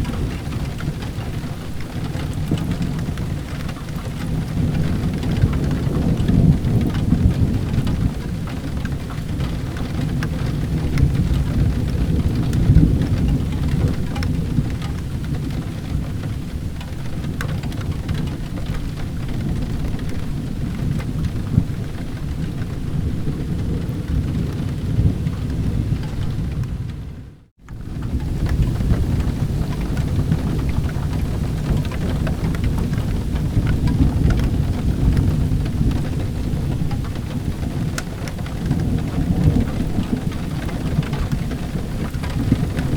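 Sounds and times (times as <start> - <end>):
heavy rain: 0.0 - 42.9
thunder rumbling: 0.0 - 42.9.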